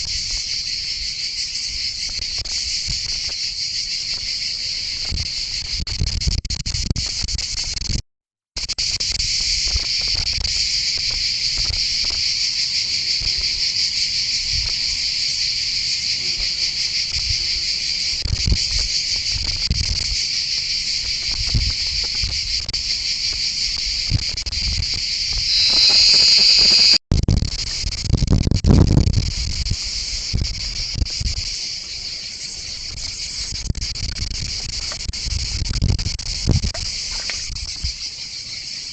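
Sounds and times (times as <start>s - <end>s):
insect chorus droning: 0.0s - 8.0s, 8.6s - 38.9s.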